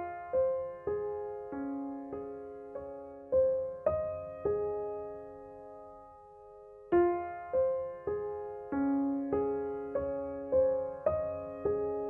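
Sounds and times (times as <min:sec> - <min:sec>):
piano notes: 0:00.0 - 0:12.0.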